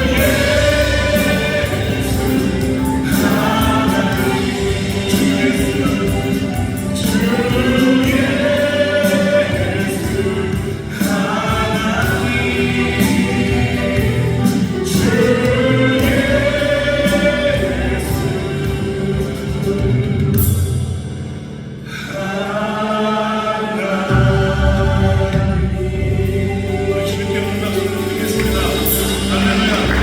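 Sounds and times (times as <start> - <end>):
choir singing: 0.0 - 20.6, 21.9 - 30.0.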